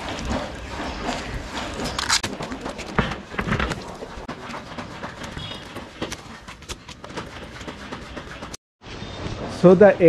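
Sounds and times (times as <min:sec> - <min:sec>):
wet wash mitt rubbing car: 0:00.0 - 0:08.6.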